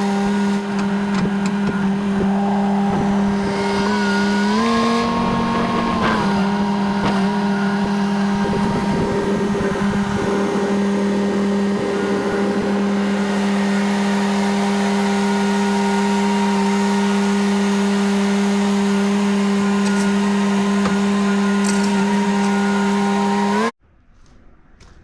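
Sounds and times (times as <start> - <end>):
skid steer engine droning: 0.0 - 23.8.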